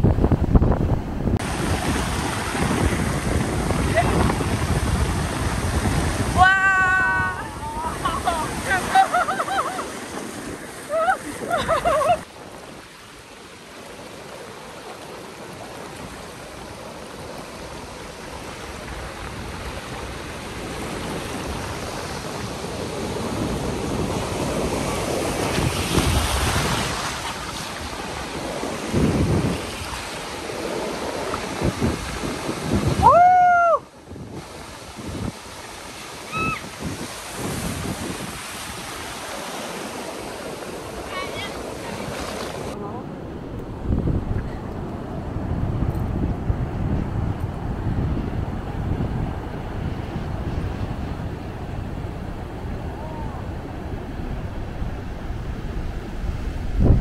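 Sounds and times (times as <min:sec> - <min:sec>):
ocean surf washing onto beach: 0:00.0 - 0:57.0.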